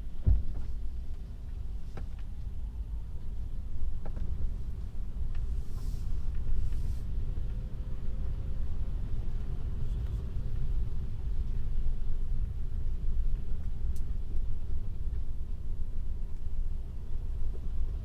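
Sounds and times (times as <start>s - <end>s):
road rumble inside car: 0.0s - 18.0s.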